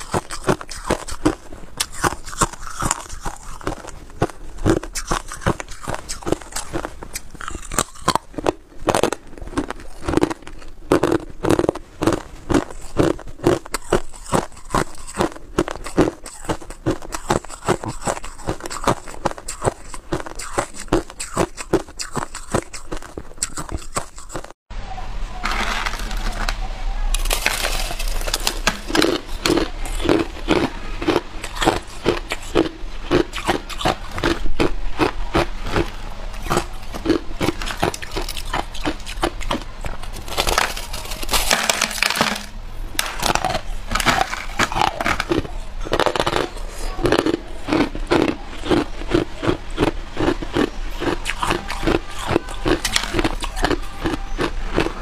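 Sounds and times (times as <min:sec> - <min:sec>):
crushed ice being chewed: 0:00.0 - 0:24.6, 0:27.1 - 0:55.0.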